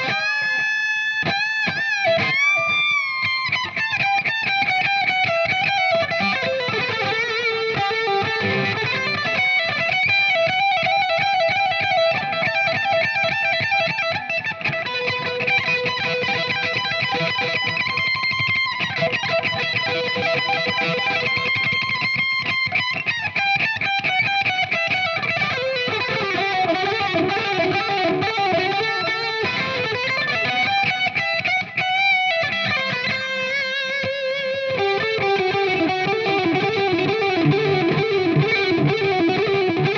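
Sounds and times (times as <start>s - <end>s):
electric guitar shred lead: 0.0s - 39.9s.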